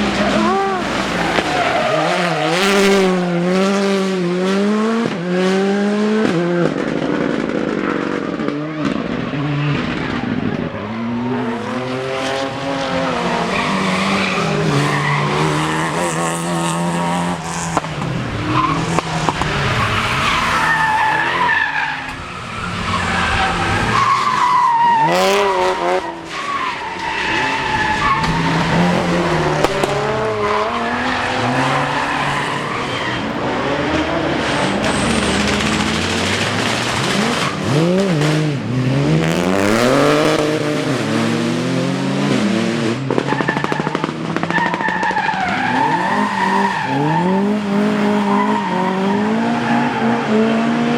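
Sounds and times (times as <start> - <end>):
tyres skidding: 0.0 - 5.4, 6.2 - 50.9
rally car engines revving: 0.0 - 50.9.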